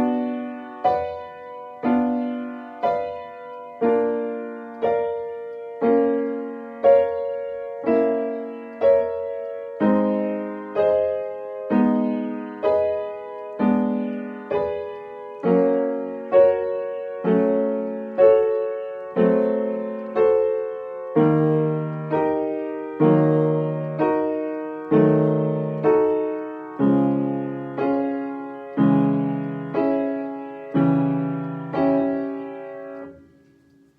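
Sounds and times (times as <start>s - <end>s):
electronic keyboard playing piano chords: 0.0s - 33.9s.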